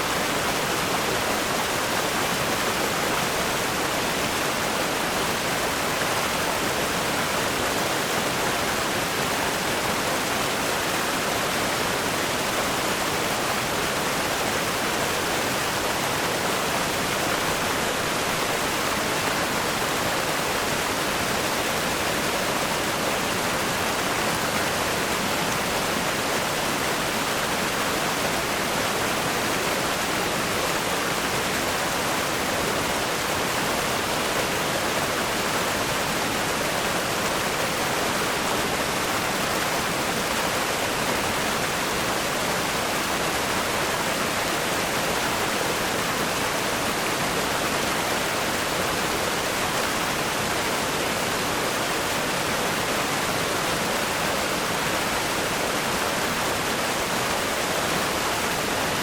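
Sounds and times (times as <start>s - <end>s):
river rapids rushing over rocks: 0.0s - 59.0s.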